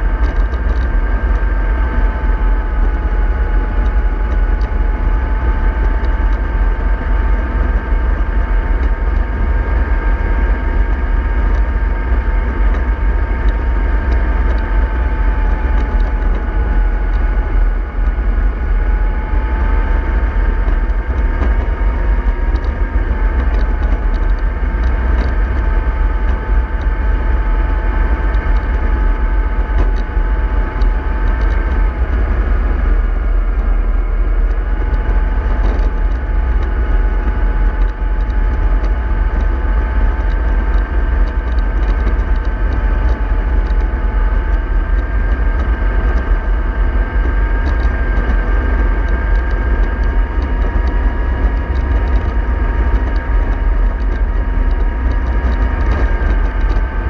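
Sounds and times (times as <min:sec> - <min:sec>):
heavy low rumble: 0:00.0 - 0:57.0
model bus motor whine: 0:00.0 - 0:57.0.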